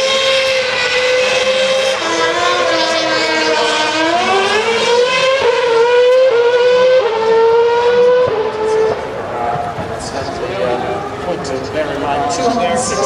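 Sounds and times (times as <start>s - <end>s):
racing car engines accelerating: 0.0s - 13.0s.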